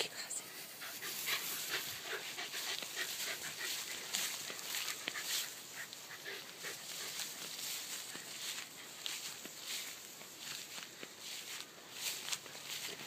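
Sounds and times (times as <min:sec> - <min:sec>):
long grass crackling and rustling: 0:00.4 - 0:13.0.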